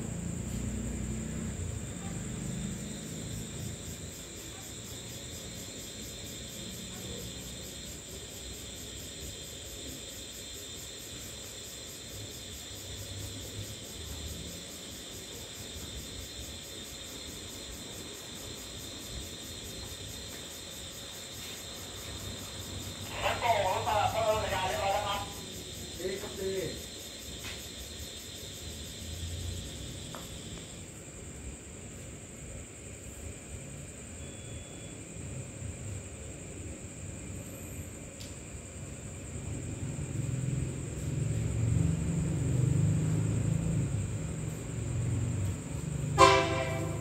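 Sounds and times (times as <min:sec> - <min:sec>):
cicadas buzzing: 0:00.0 - 0:47.0.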